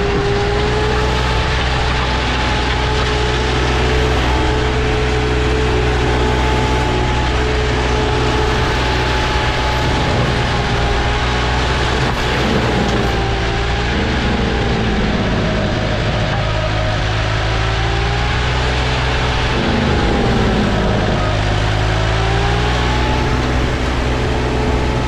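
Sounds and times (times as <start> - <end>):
high whine: 0.0 - 25.0
mower engine drone: 0.0 - 25.0.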